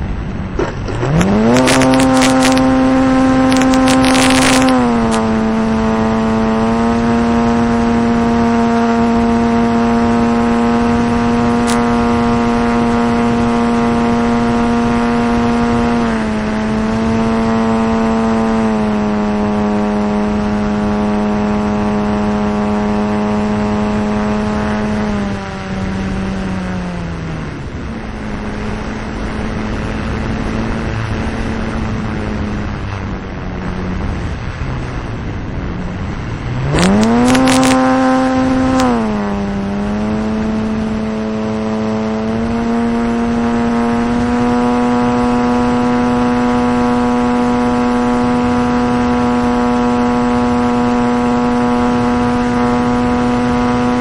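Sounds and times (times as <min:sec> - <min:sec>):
model plane motor and propeller: 0:00.5 - 0:32.9, 0:35.2 - 0:54.0.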